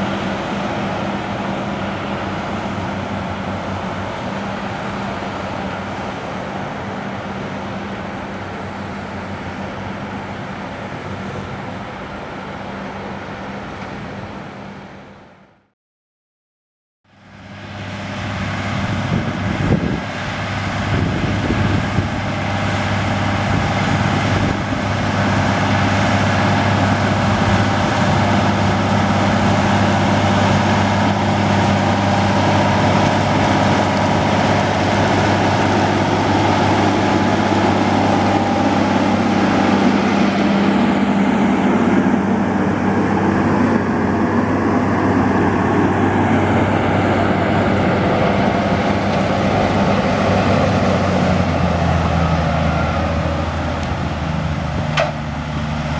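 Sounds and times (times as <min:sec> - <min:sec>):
tractor diesel engine under load: 0:00.0 - 0:15.7, 0:17.1 - 0:55.9.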